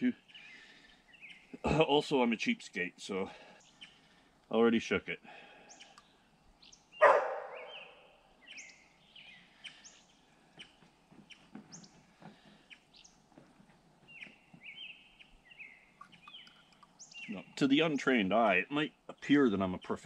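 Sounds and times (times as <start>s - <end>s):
birds chirping and singing: 0.0s - 2.6s, 3.2s - 20.0s.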